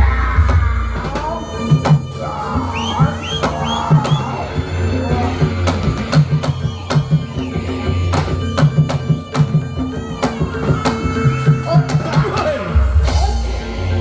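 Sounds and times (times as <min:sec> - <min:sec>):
drum pattern: 0:00.0 - 0:14.0
ringing percussion tones: 0:00.0 - 0:14.0.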